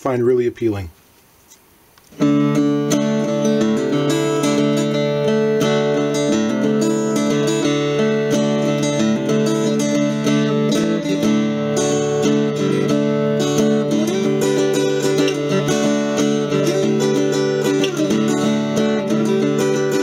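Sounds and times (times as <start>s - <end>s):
acoustic guitar strummed and picked: 2.1s - 20.0s.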